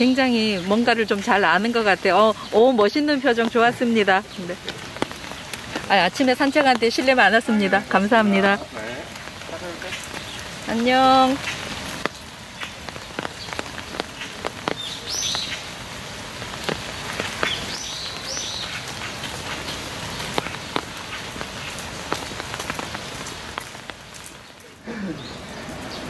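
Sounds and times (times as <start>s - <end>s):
light rain dripping: 0.0s - 26.0s.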